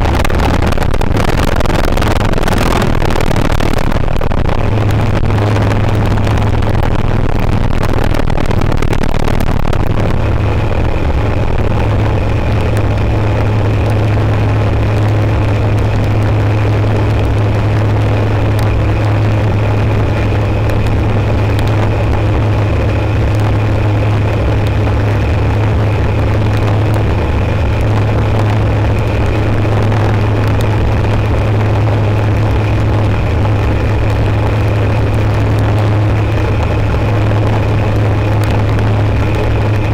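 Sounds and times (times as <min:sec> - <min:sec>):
aircraft engine and propeller drone: 0:00.0 - 0:08.9, 0:09.5 - 0:39.9.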